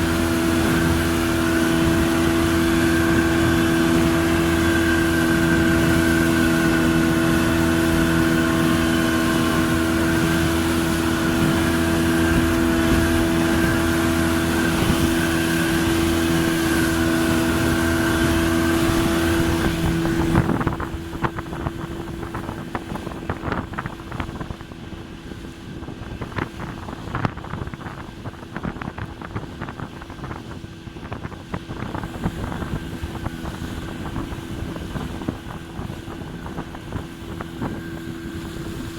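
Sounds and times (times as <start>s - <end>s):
outboard motor running: 0.0s - 38.9s
water slapping against hull: 0.0s - 38.9s
wind buffeting microphone: 0.0s - 38.9s.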